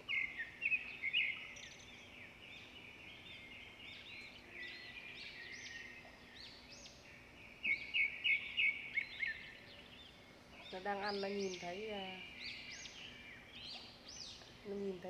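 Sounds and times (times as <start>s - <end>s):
birds chirping in chorus: 0.0s - 15.0s.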